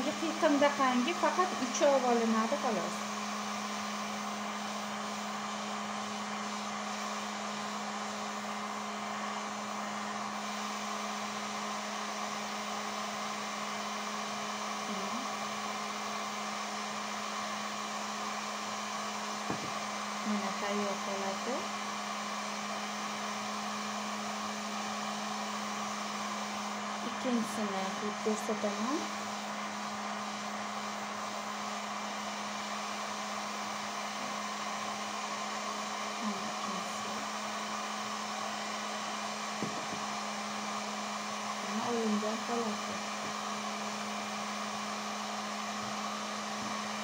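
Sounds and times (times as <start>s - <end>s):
heat gun hissing and humming: 0.0s - 47.0s.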